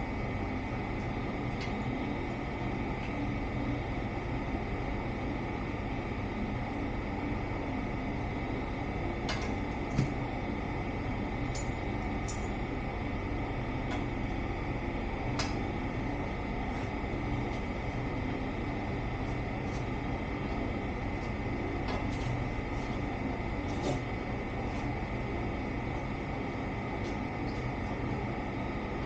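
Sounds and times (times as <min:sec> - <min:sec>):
fan running: 0:00.0 - 0:29.0.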